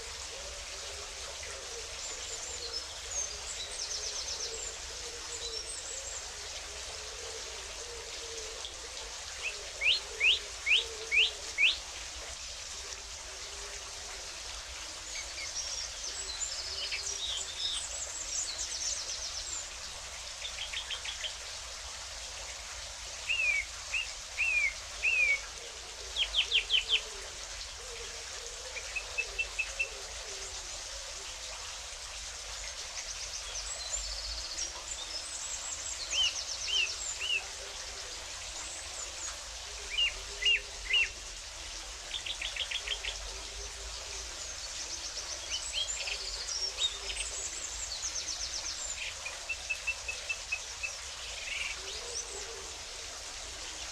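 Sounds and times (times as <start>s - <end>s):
running water hiss: 0.0s - 53.9s.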